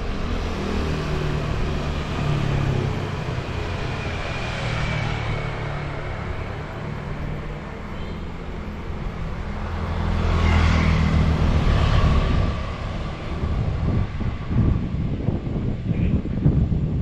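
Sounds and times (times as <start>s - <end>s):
vehicle engine passing: 0.0s - 15.1s.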